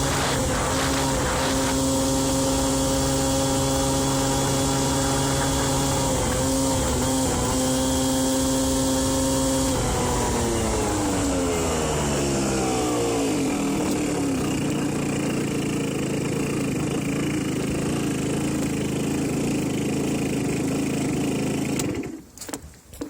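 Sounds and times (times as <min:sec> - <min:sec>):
scooter engine running: 0:00.0 - 0:22.2.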